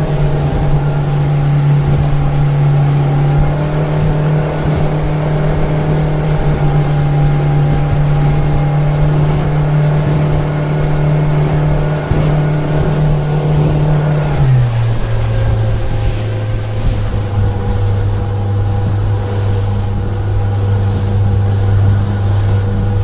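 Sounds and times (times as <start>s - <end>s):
motorboat engine drone: 0.0s - 23.0s.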